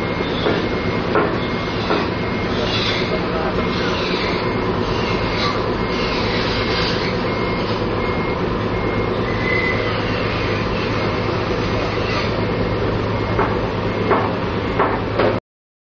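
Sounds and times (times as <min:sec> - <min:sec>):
faint high beeps: 0:00.0 - 0:14.9
engine humming: 0:00.0 - 0:15.4.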